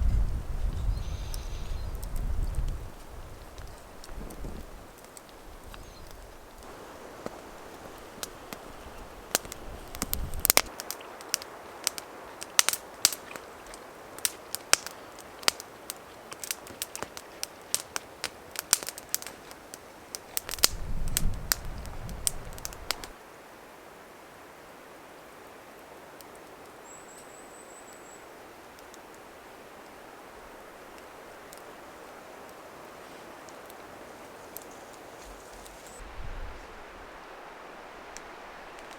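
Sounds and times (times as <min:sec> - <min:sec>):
wood fire crackling: 0:00.0 - 0:23.2, 0:25.5 - 0:27.3, 0:27.9 - 0:38.9
steady soft hiss: 0:00.0 - 0:38.9.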